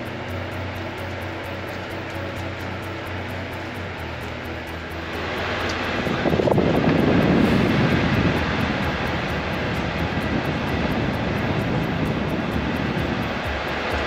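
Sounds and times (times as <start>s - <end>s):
electric fan blowing air: 0.0s - 14.0s.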